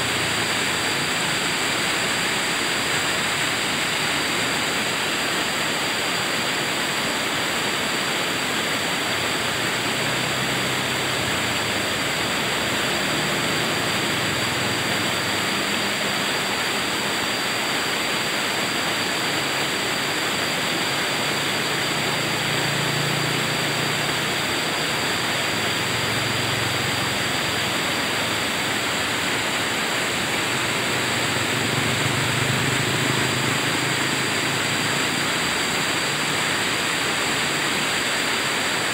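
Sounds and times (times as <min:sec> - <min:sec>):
water rushing over boulders: 0:00.0 - 0:38.9.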